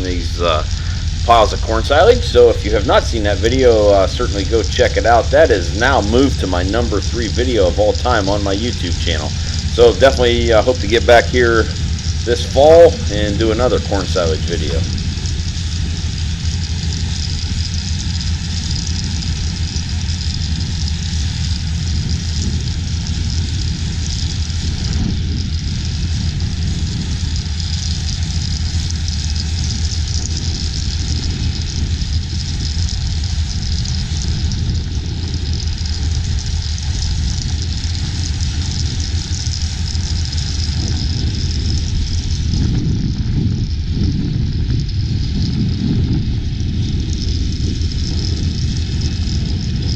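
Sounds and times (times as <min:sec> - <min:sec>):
large engine droning: 0:00.0 - 0:49.9.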